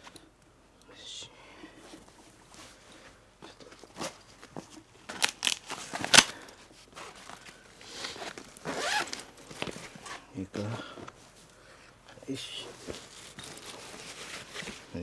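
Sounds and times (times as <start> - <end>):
fabric rustling and crinkling: 1.8 - 11.5, 12.4 - 15.0.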